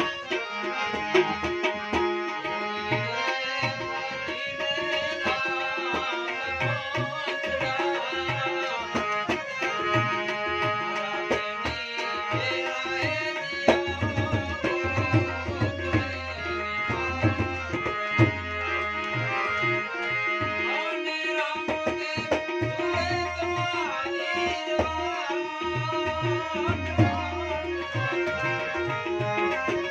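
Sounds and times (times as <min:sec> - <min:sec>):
harmonium melody: 0:00.0 - 0:29.9.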